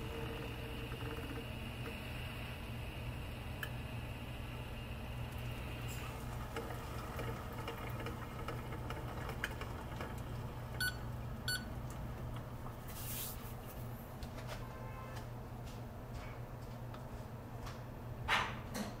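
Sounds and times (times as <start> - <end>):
steady low hum: 0.0 - 18.3.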